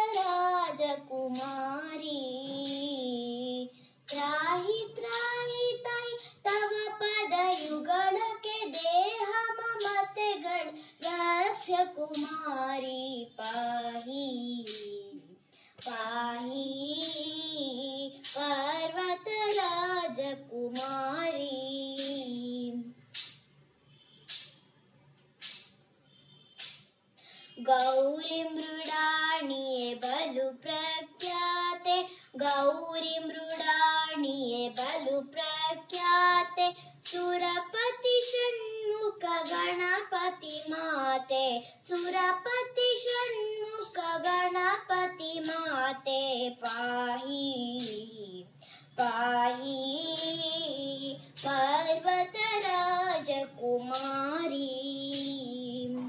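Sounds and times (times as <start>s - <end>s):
girl singing devotional song: 0.0s - 23.4s, 26.6s - 56.0s.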